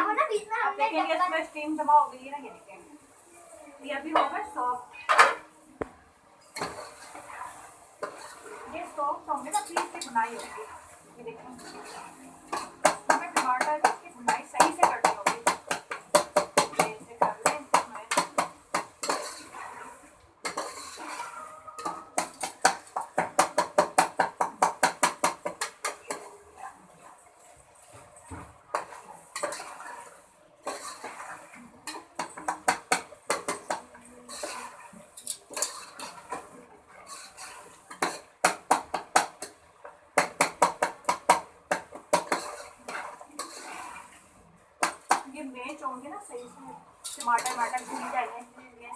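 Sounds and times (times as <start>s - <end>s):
spatula scraping cooking pot: 6.4s - 45.8s, 47.0s - 48.6s.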